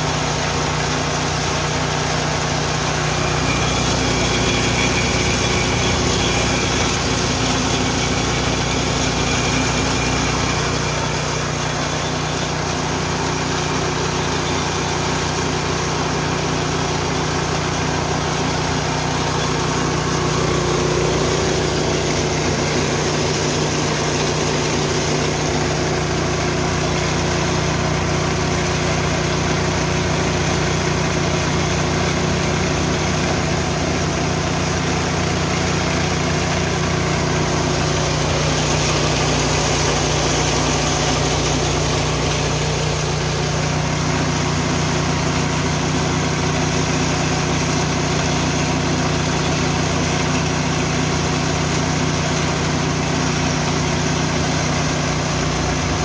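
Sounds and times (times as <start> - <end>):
grain mill running: 0.0 - 56.0.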